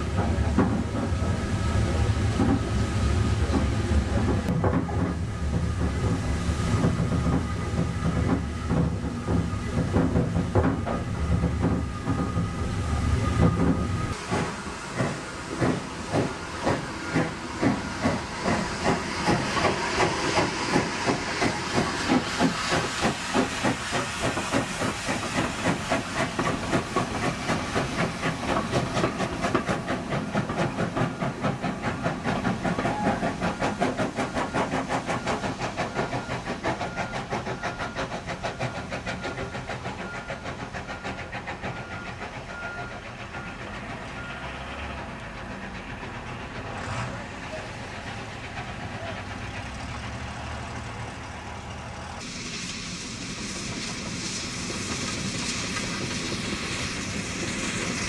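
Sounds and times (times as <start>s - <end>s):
steam hissing: 0.0s - 58.0s
steam locomotive exhaust beats: 0.0s - 58.0s.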